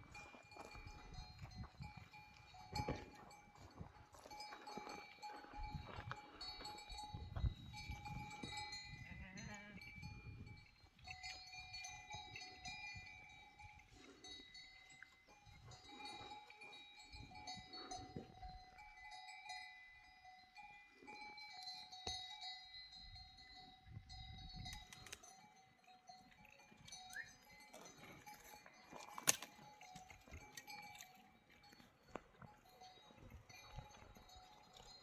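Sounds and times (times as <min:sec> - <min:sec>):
goat and sheep bells ringing: 0:00.0 - 0:35.0.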